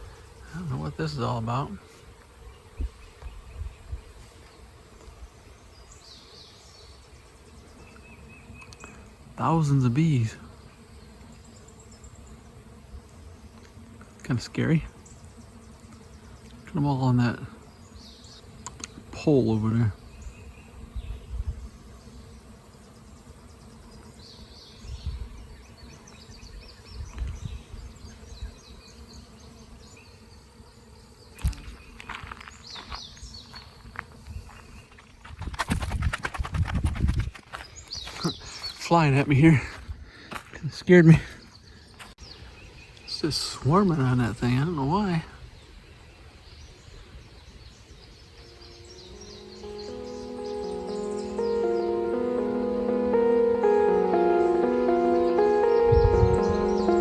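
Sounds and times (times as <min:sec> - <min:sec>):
bee swarm buzzing: 0:00.0 - 0:40.5, 0:48.3 - 0:57.0.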